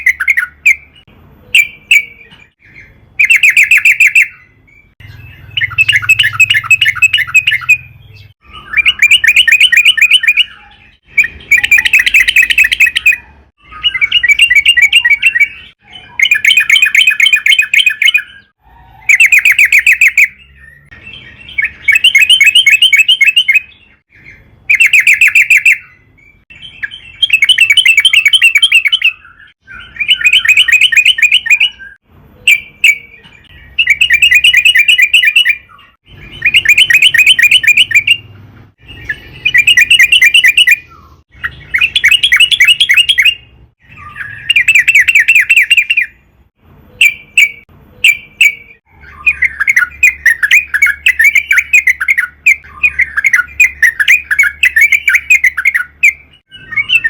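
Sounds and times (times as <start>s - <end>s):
bird chattering song: 0.0s - 46.3s, 46.9s - 57.0s.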